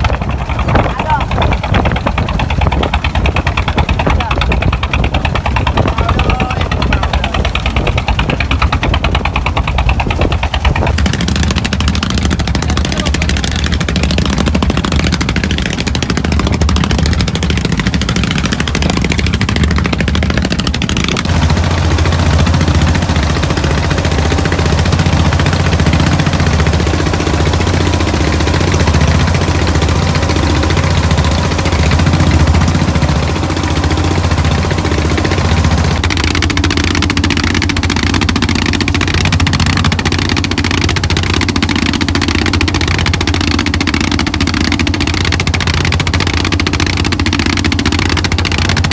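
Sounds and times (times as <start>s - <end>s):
boat engine running: 0.0s - 48.9s.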